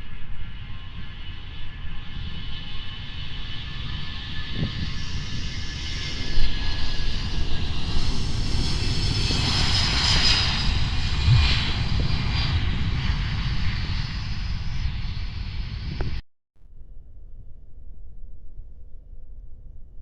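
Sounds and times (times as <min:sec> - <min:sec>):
airplane engines passing: 0:00.0 - 0:16.2.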